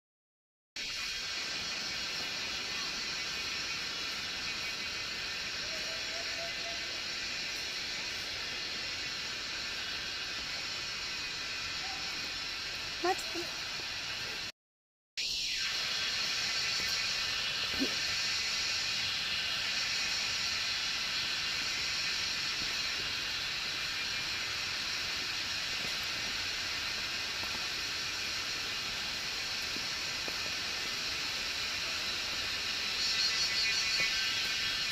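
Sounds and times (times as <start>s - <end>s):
forest ambience hiss: 0.8s - 14.5s, 15.2s - 34.9s
insect chorus buzzing: 0.8s - 14.5s, 15.2s - 34.9s.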